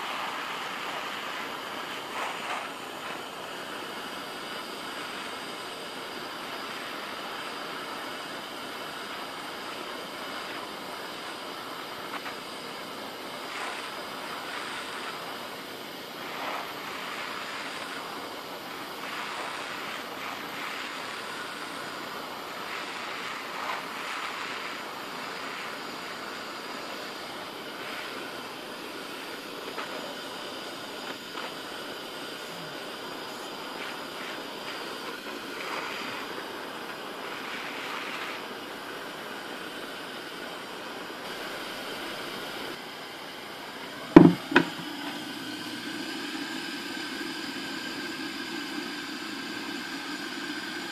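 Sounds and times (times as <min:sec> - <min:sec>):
gas torch hissing: 0:00.0 - 0:50.9.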